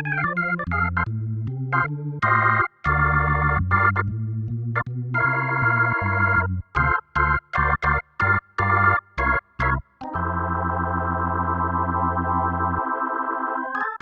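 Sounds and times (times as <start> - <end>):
keyboard chords: 0.0 - 14.0.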